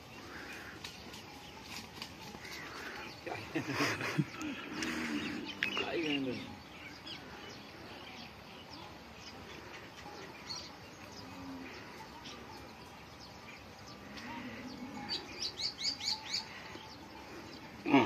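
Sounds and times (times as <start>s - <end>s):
birds chirping: 0.0s - 18.0s
low outdoor background noise: 0.0s - 18.0s.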